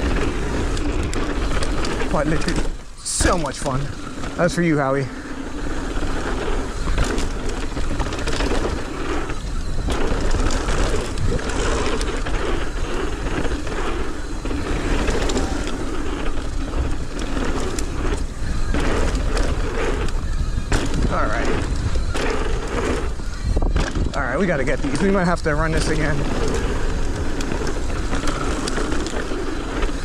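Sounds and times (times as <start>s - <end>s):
bike rattling and knocking: 0.0s - 30.0s
tyres rolling over dirt: 0.0s - 30.0s
wind buffeting microphone: 0.0s - 30.0s.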